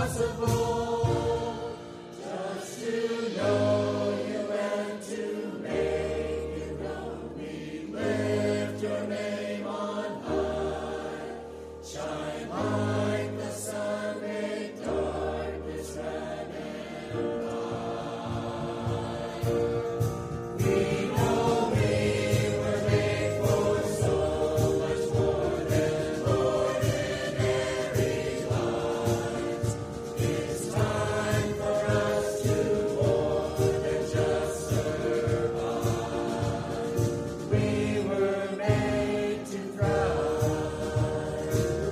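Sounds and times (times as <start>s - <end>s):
instrumental accompaniment: 0.0s - 11.4s, 12.0s - 41.9s
choir singing: 0.0s - 41.9s.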